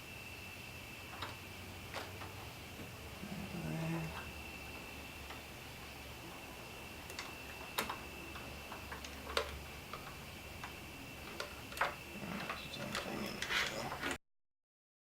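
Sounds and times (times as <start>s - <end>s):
high-pitched whine: 0.0s - 14.2s.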